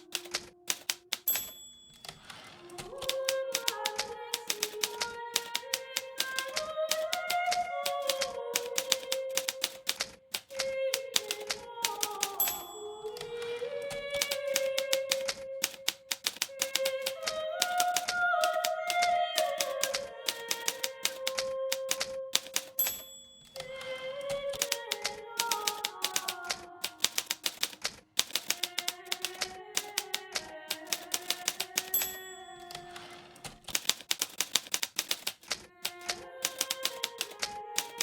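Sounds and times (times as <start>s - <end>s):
typewriter keys clacking: 0.0s - 38.0s.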